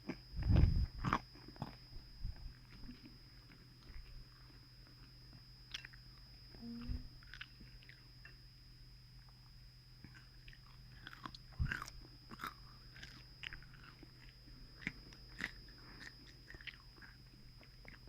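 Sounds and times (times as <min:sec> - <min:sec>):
close chewing and biting: 0:00.0 - 0:06.1, 0:07.2 - 0:08.1, 0:10.0 - 0:18.0
faint steady hum: 0:00.0 - 0:18.0.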